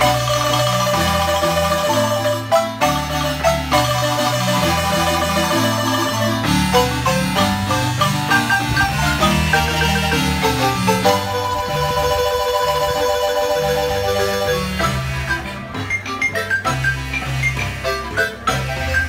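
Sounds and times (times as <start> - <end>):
marimba ensemble playing: 0.0 - 19.0.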